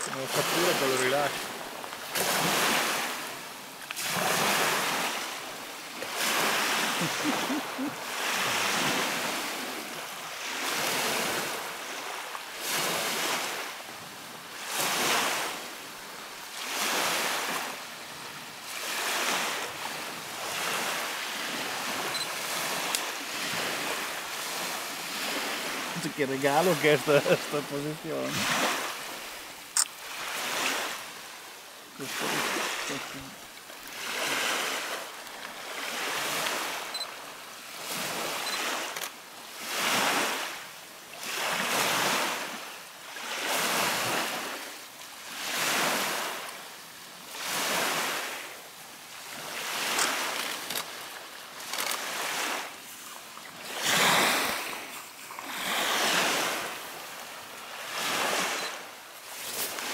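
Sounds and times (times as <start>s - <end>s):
small waves washing onto gravel: 0.0s - 40.6s, 41.2s - 59.9s.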